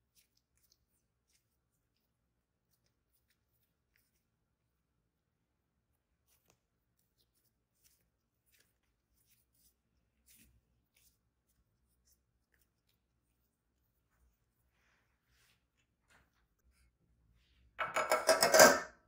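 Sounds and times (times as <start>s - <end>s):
faint dough rustles and clicks: 0.0s - 17.8s.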